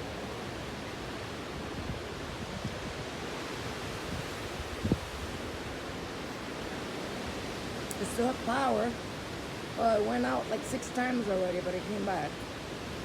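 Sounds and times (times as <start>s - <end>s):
strong wind blowing: 0.0s - 10.6s
wind gusts buffeting microphone: 0.0s - 13.0s.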